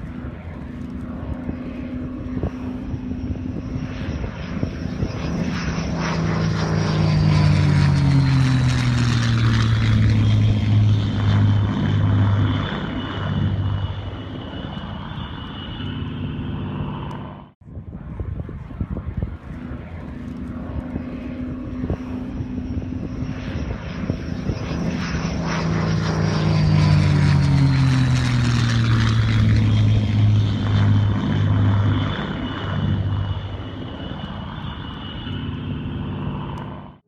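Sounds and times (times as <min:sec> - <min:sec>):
propeller aircraft flying past: 0:00.0 - 0:37.0.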